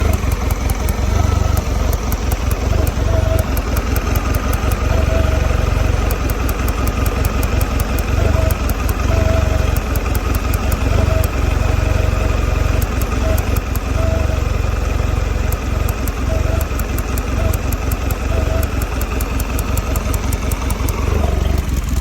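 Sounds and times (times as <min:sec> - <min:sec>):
light rapid ticking: 0:00.0 - 0:22.0
outboard motor idling roughly: 0:00.0 - 0:22.0.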